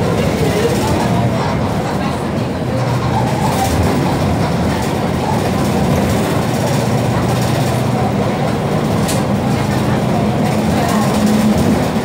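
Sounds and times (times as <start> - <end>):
bus engine drone: 0.0 - 12.0
road rumble: 0.0 - 12.0.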